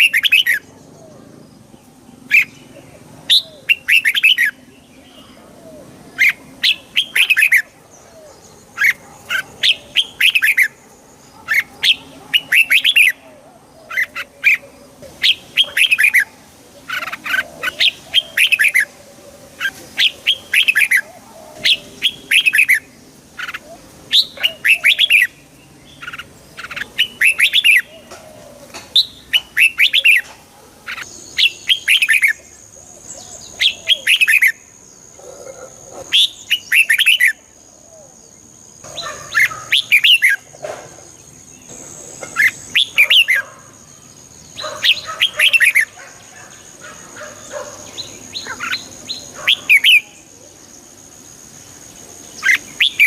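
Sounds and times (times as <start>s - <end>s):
bird singing warbling phrases: 0.0s - 53.0s.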